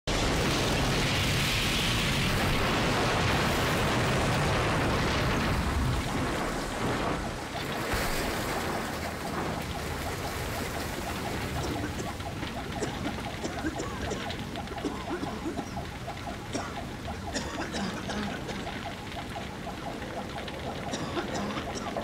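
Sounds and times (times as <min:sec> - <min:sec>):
burning wreckage crackling: 0:00.1 - 0:22.0.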